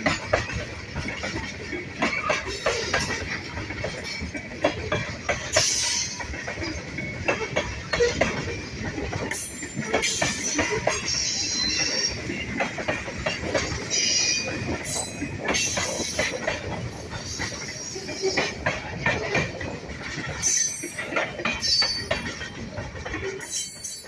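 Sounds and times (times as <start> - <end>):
train wheels clicking over rail joints: 0.0 - 24.0
wheel squealing on rail: 1.4 - 24.0.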